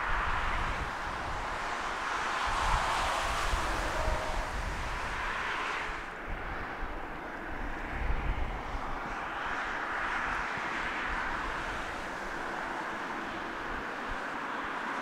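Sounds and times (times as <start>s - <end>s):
distant jet engines taxiing: 0.0s - 15.0s.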